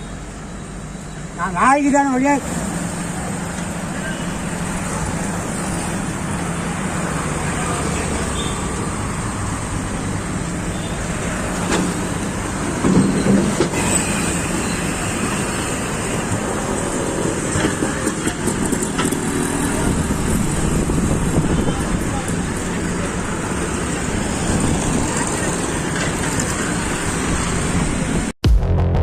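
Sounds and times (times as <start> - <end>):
street traffic noise: 0.0 - 28.4.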